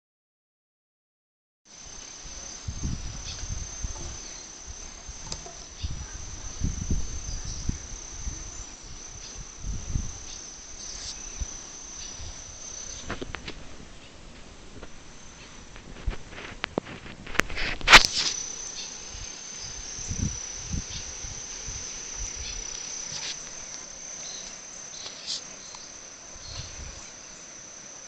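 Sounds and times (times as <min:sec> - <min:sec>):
insect chirring: 0:01.7 - 0:13.6, 0:14.8 - 0:28.0.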